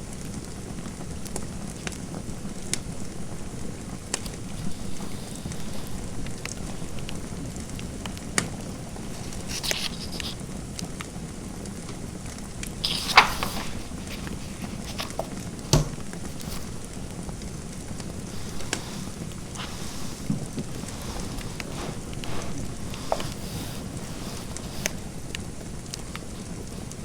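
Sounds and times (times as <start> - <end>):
fire popping: 1.7 - 27.0
fire hissing: 2.2 - 11.6, 12.2 - 27.0.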